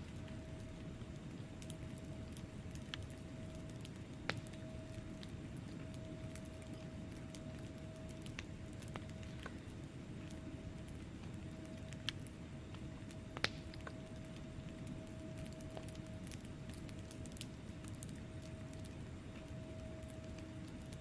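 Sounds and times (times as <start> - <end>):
logs crackling and popping: 0.0 - 21.0
wood fire rumbling: 0.0 - 21.0.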